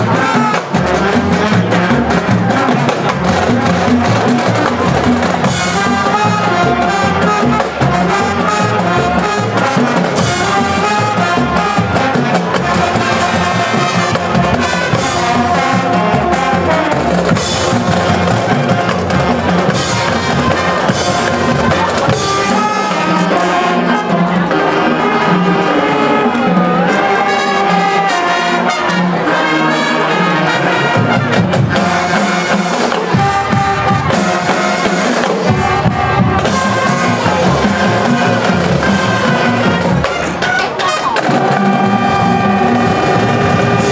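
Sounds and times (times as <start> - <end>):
drums: 0.0 - 43.9
marching band brass: 0.0 - 43.9.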